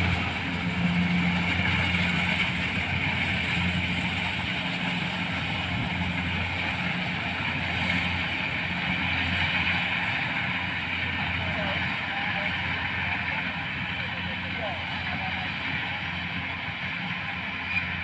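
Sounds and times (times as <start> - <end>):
combine harvester engine droning: 0.0 - 18.0.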